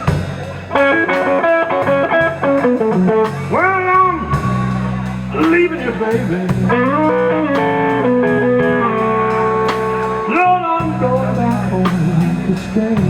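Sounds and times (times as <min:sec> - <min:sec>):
electric guitar lead: 0:00.0 - 0:13.0
low backing music: 0:00.3 - 0:13.0.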